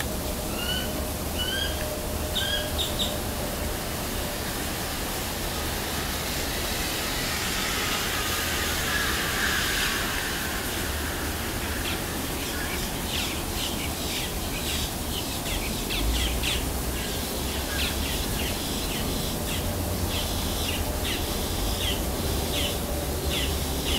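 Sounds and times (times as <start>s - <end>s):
steady hiss: 0.0s - 23.9s.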